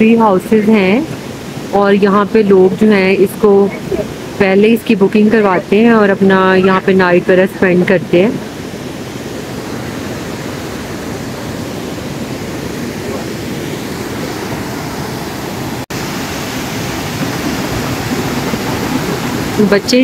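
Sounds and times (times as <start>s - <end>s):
waterfall: 0.0s - 20.0s
river rapids rushing: 0.6s - 4.6s, 6.4s - 20.0s.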